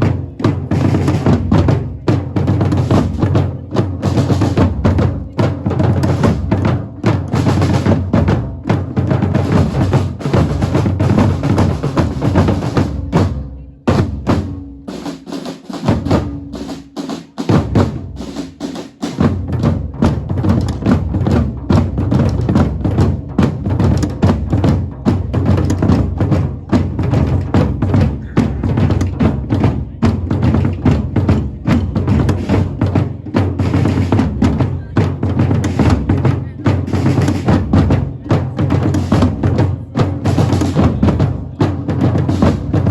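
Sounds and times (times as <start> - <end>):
heavy drumming music: 0.0 - 42.9.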